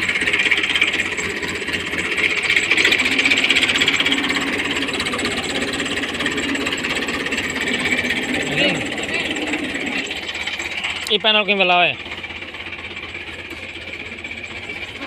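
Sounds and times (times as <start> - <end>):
engine clattering knock: 0.0 - 15.0
tractor diesel engine running: 0.0 - 15.0.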